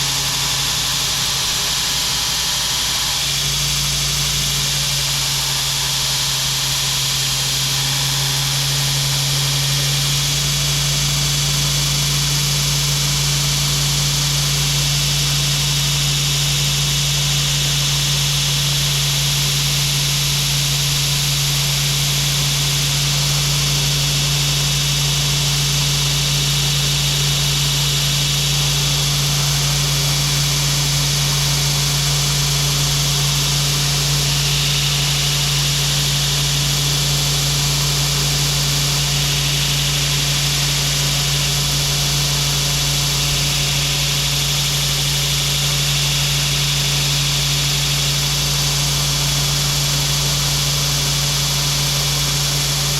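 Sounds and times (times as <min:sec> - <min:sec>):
electric motor humming: 0:00.0 - 0:52.9.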